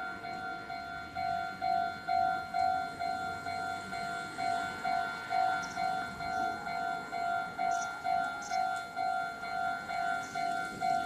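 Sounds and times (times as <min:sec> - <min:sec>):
level crossing warning bell: 0:00.0 - 0:11.0.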